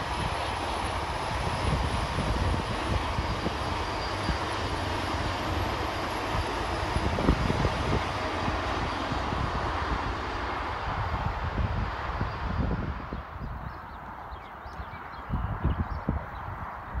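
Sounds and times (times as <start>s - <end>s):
train passing: 0.0s - 15.1s.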